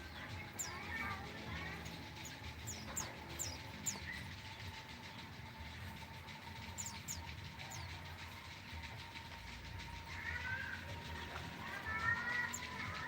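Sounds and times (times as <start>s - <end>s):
cage birds chirping: 0.0s - 13.0s
low steady rumble: 0.0s - 13.0s.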